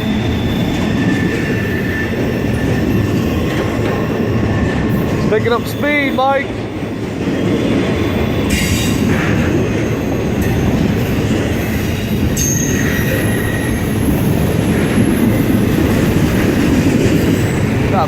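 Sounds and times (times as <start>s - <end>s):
freight train wheels rumbling on rails: 0.0s - 18.0s
high squealing wheels: 0.0s - 18.0s.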